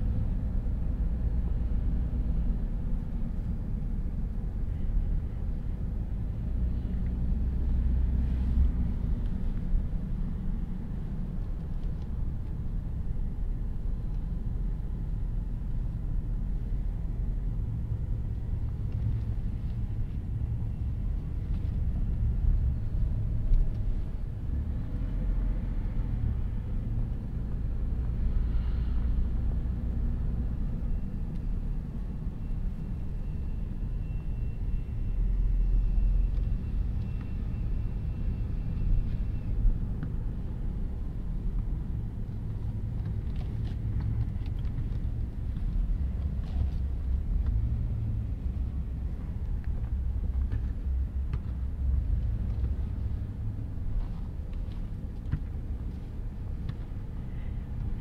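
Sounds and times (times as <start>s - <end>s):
car engine rumble: 0.0s - 58.0s
tyre road noise: 0.0s - 58.0s.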